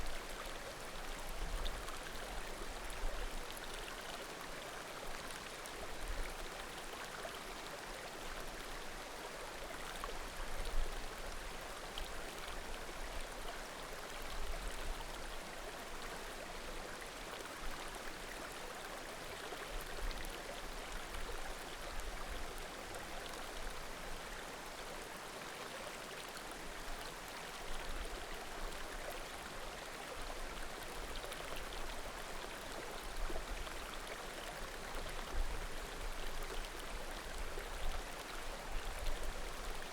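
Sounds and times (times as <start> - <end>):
mountain creek flowing water: 0.0 - 39.9.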